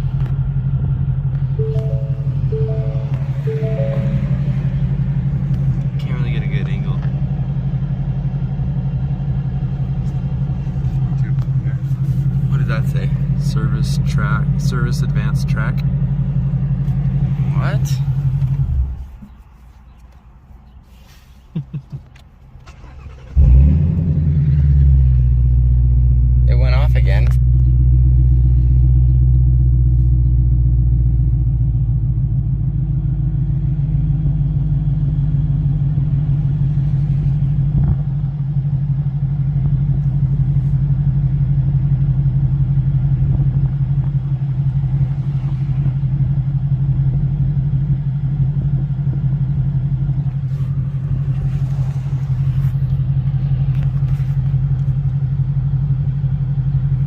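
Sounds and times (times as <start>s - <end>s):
car engine droning: 0.0s - 19.7s, 22.6s - 57.0s
road noise: 0.0s - 57.0s.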